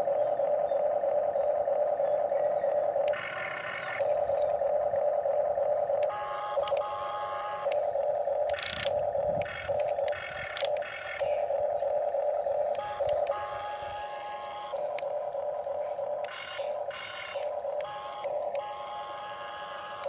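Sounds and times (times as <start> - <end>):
toy excavator motors whining: 0.0 - 20.0.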